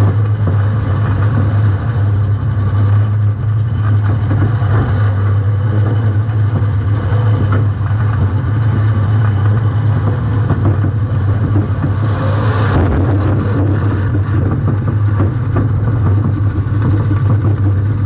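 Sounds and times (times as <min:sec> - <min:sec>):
car engine low drone: 0:00.0 - 0:18.0.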